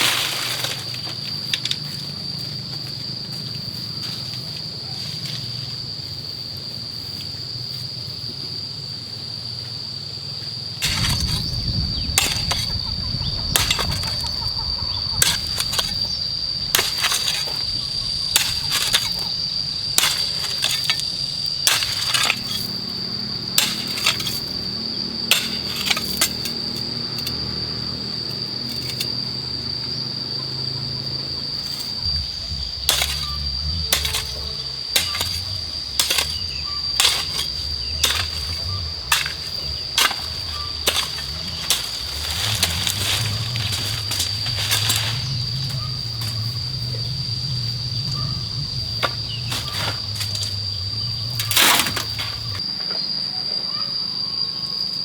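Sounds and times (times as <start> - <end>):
steady high-pitched whine: 10.8 - 55.0.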